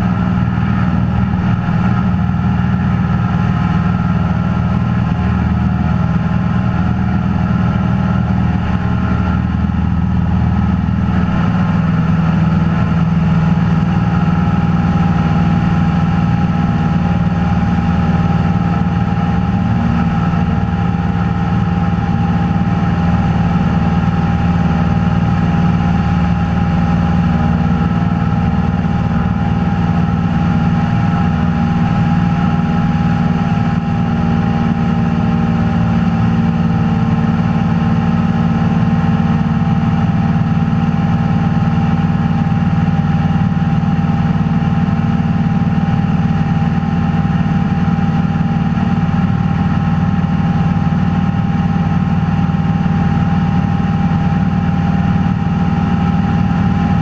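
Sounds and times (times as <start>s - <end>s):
aircraft engine and propeller drone: 0.0s - 57.0s.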